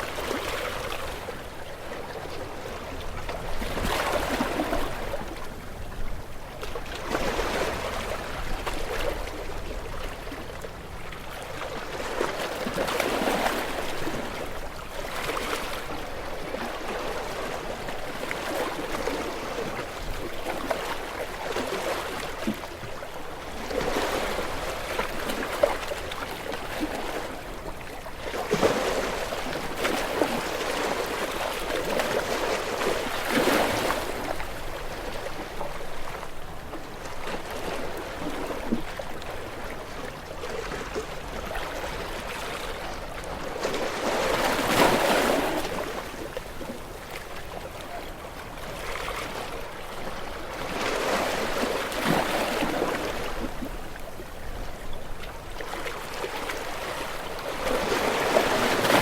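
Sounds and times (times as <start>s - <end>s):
gentle waves washing onto shore: 0.0s - 59.0s.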